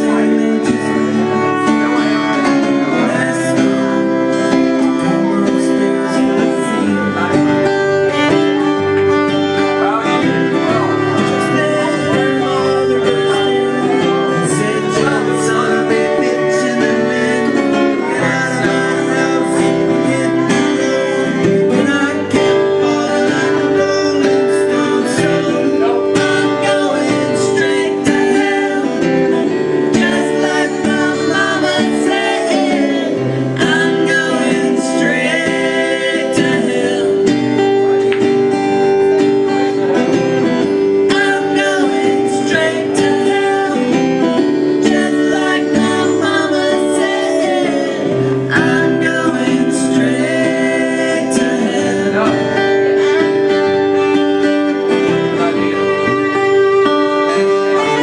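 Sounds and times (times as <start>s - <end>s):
violin melody: 0.0s - 47.2s, 52.0s - 58.0s
strummed acoustic guitar: 0.0s - 58.0s.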